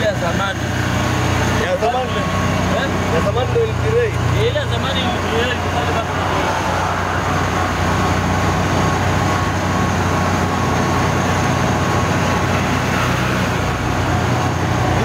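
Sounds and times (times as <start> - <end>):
auto-rickshaw engine running: 0.0 - 15.0
road and wind noise: 0.0 - 15.0.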